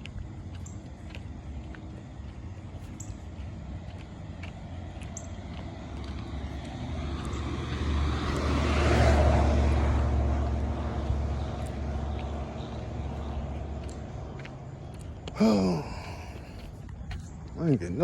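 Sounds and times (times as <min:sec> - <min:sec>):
road vehicle passing close: 0:00.0 - 0:16.7.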